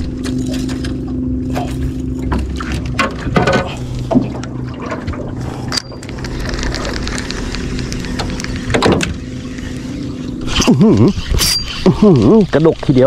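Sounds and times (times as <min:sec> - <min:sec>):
electric motor low hum: 0:00.0 - 0:13.0.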